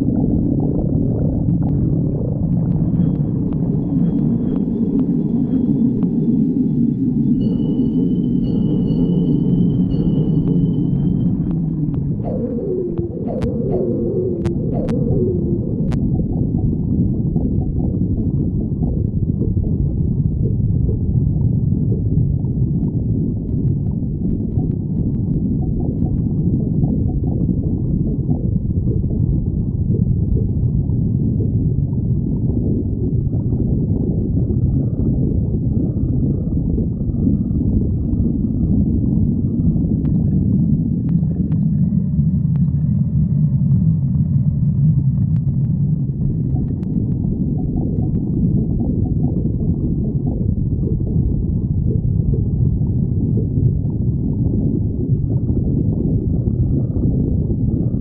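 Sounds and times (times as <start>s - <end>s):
stomach growling: 0.0s - 6.4s, 10.3s - 58.0s.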